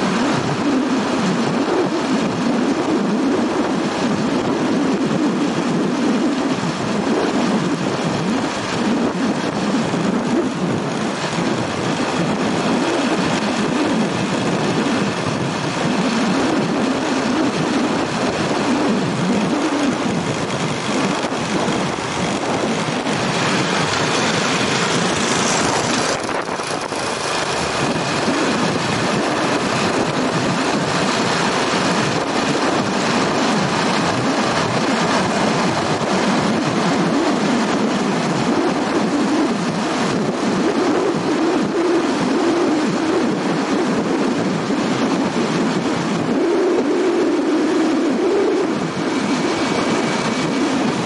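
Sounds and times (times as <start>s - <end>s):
motorbike engine riding: 0.0s - 51.0s
road and wind noise: 0.0s - 51.0s.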